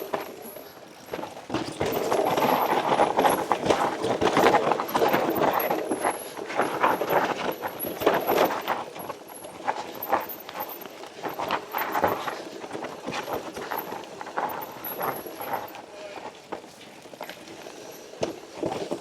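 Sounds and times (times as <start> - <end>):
mountain bike rattling over rocks: 0.0 - 19.0.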